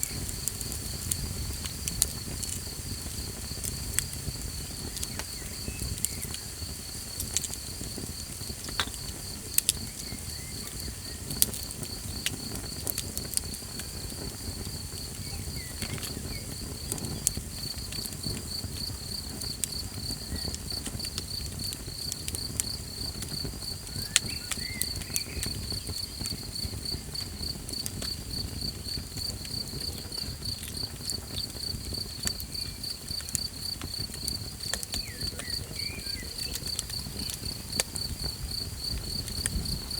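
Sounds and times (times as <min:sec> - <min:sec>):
campfire crackling and popping: 0:00.0 - 0:39.9
night insects trilling: 0:00.0 - 0:39.9.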